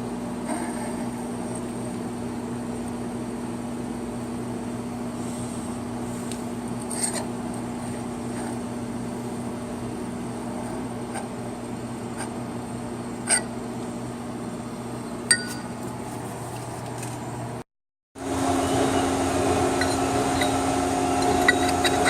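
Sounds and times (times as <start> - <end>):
steady machine hum: 0.0 - 17.6, 18.2 - 22.0.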